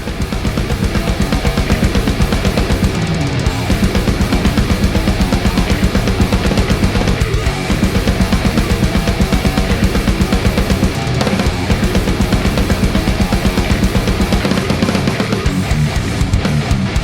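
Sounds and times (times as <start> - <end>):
drum kit fast beat: 0.0 - 17.0
heavy metal guitar: 0.0 - 17.0.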